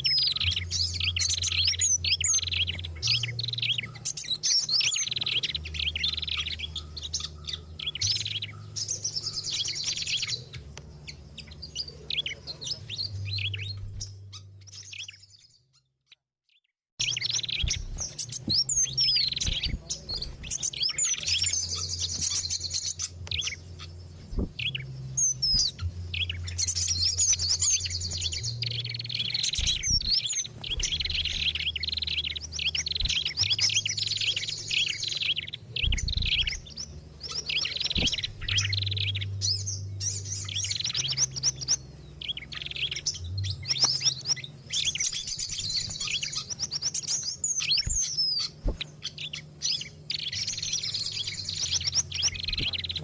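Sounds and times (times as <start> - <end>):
low hum: 0.0 - 15.6, 17.0 - 53.0
songbirds chattering and chirping: 0.0 - 53.0.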